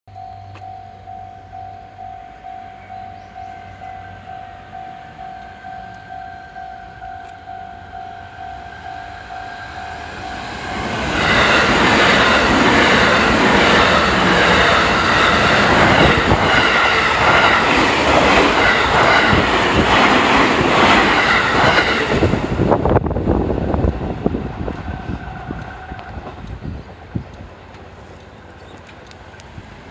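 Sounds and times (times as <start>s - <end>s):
trains rushing past: 1.0s - 29.9s.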